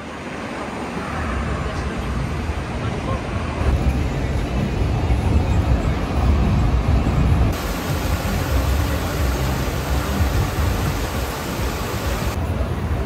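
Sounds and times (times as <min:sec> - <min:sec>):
metro station rumbling hiss: 0:00.0 - 0:13.0.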